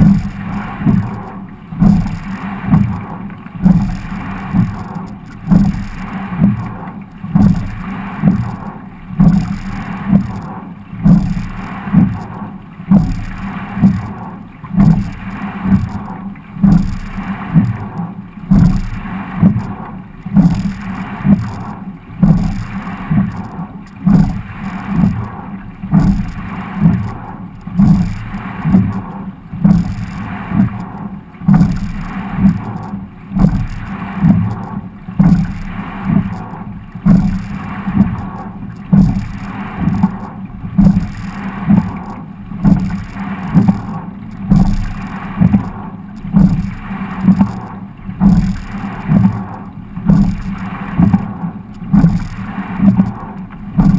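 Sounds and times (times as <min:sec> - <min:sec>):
oar stroke knock: 0:00.0 - 0:10.4, 0:11.0 - 0:21.6, 0:25.8 - 0:30.8, 0:31.5 - 0:36.4, 0:37.0 - 0:53.9
continuous wash of water: 0:00.0 - 0:53.9
water surging along hull: 0:00.0 - 0:53.9.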